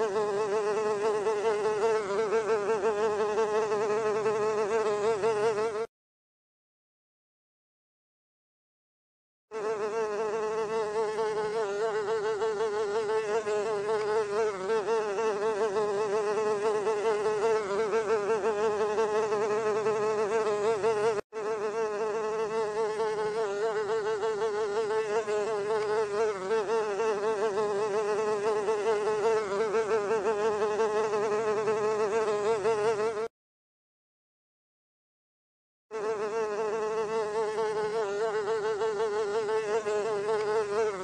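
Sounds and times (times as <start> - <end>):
housefly buzzing: 0.0 - 5.9, 9.5 - 33.4, 35.9 - 41.0.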